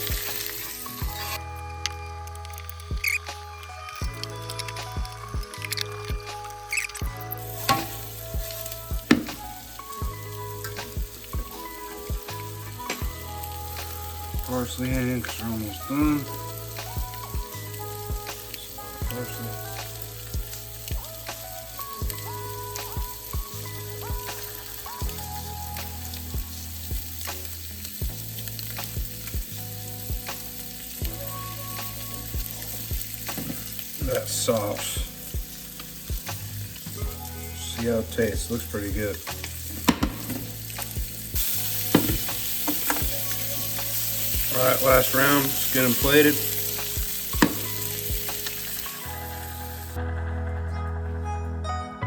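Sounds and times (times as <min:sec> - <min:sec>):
fish sizzling in a frying pan: 0:00.0 - 0:50.0
background music with steady beat: 0:00.0 - 0:52.0.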